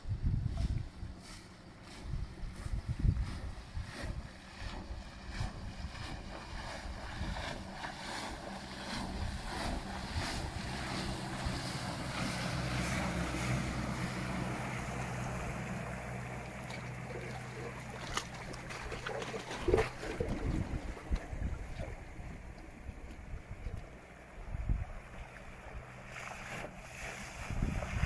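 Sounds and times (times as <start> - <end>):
wind buffeting microphone: 0.0 - 25.9, 26.6 - 28.0
hull rushing through water: 0.0 - 28.0.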